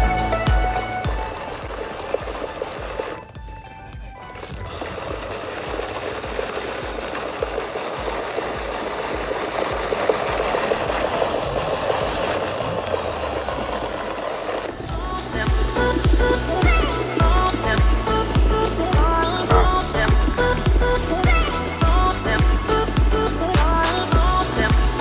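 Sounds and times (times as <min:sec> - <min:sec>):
small electric motor whirring: 0:00.0 - 0:03.4, 0:04.2 - 0:24.4
tyres scrabbling on loose earth: 0:00.5 - 0:25.0.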